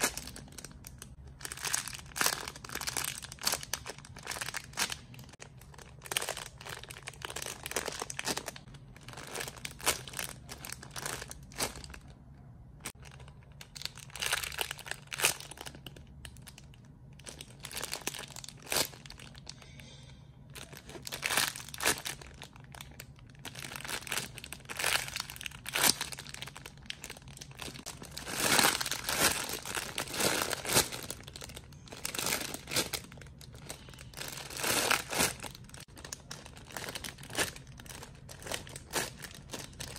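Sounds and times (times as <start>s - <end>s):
plastic packaging crinkling: 0.0s - 12.2s, 12.8s - 19.6s, 20.6s - 39.9s
faint low hum: 0.0s - 39.9s.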